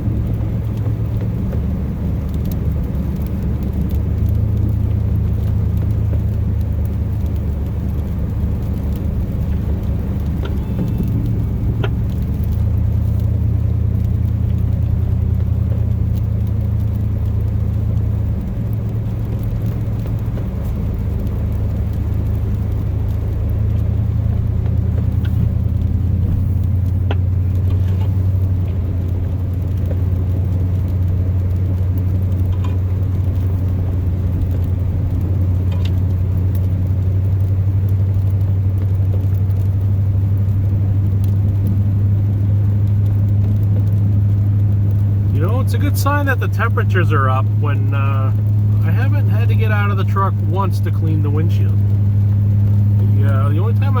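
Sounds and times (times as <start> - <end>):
truck engine rumble from cab: 0.0 - 54.0
faint clicks: 0.2 - 48.9.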